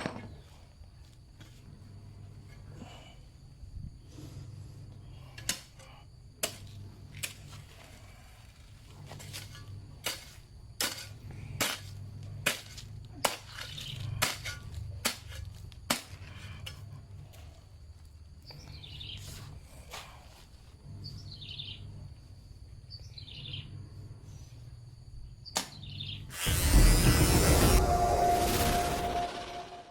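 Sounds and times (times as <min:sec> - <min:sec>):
steady low hum: 0:00.0 - 0:25.5, 0:26.3 - 0:29.9.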